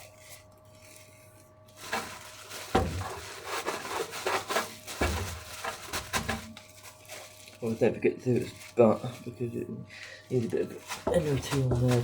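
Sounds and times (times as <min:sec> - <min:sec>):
hands rubbing raw chicken: 0:00.0 - 0:12.0.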